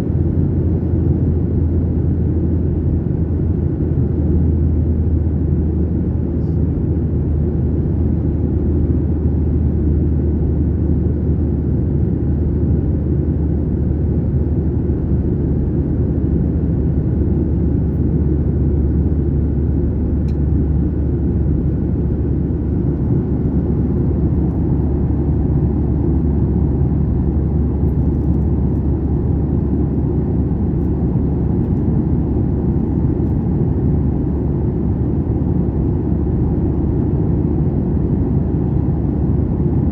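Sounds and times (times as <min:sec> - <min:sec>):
airliner cabin jet engine drone: 0:00.0 - 0:39.9.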